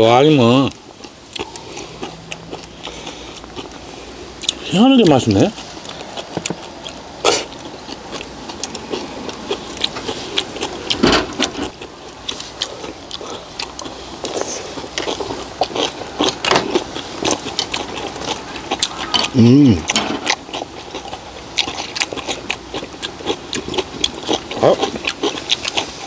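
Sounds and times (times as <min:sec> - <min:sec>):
chewing and mouth smacking: 0:00.4 - 0:26.0.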